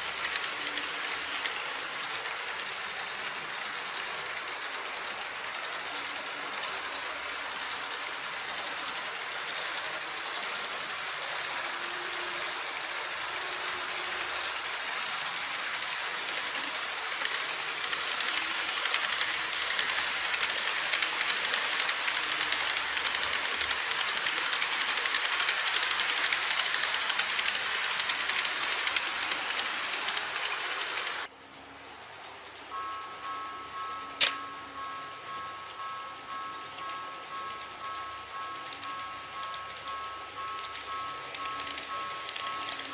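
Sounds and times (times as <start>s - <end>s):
model train rattling whir: 0.0s - 42.9s.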